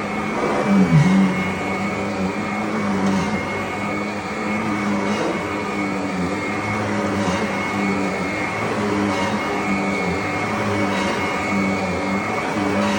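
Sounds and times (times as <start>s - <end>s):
vacuum cleaner running: 0.0s - 12.9s.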